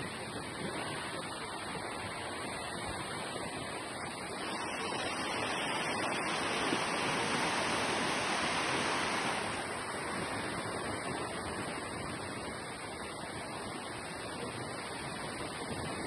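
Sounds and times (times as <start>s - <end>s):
sea surf washing onto beach: 0.0s - 16.0s.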